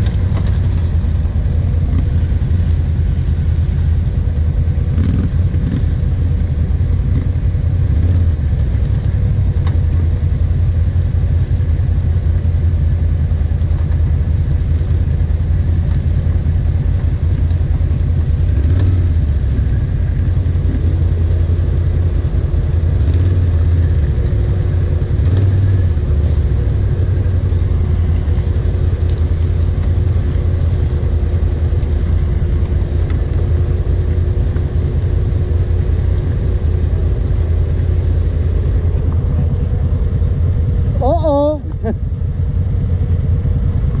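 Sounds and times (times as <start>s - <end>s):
atv engine running at low revs: 0.0s - 44.0s
steady hum: 0.0s - 44.0s.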